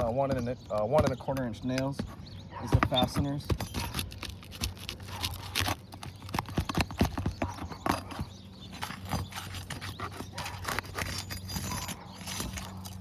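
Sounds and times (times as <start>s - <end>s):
hand tool under roof shingles: 0.0s - 13.0s.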